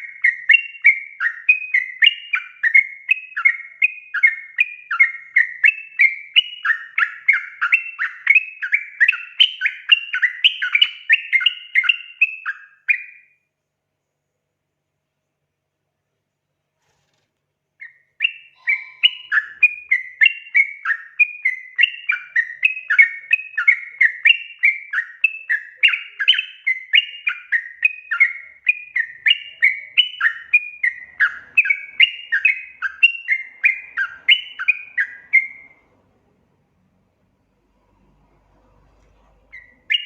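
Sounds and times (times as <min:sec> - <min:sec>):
bird warbling song: 0:00.0 - 0:13.4, 0:17.8 - 0:36.0, 0:39.0 - 0:40.0.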